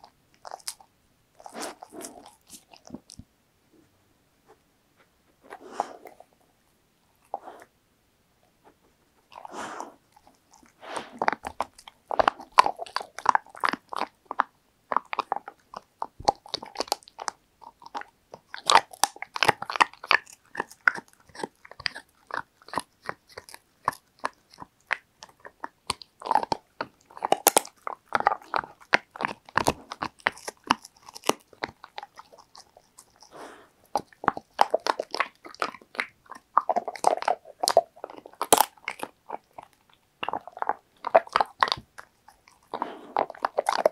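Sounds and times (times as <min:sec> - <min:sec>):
dog chewing crunchy treats: 0:00.0 - 0:03.2, 0:09.2 - 0:43.9.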